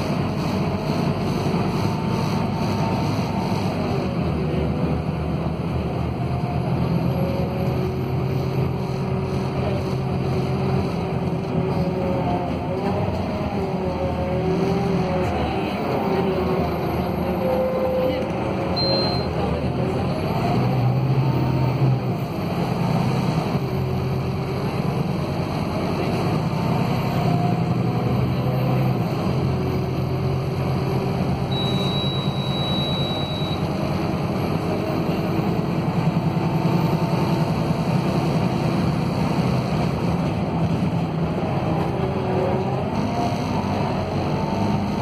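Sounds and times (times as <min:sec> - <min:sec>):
bus engine low hum: 0:00.0 - 0:45.0.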